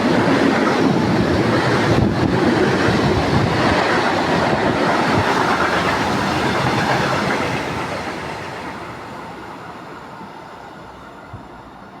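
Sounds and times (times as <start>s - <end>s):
train rolling on rails: 0.0s - 12.0s.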